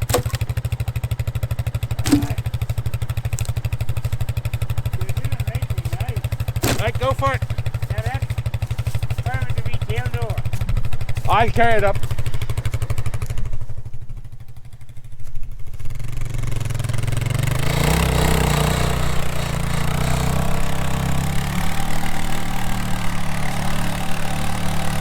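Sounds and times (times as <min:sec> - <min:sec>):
quad engine idling and revving: 0:00.0 - 0:25.0.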